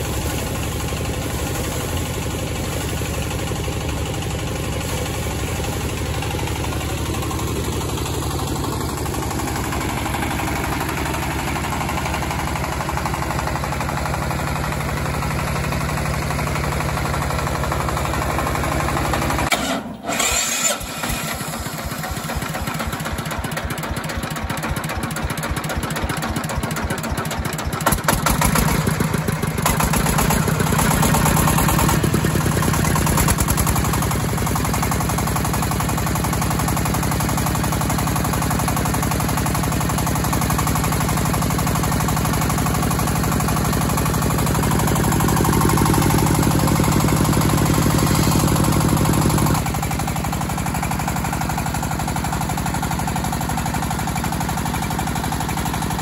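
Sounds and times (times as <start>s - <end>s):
air compressor running: 0.0s - 56.0s
diesel engine running: 0.0s - 56.0s.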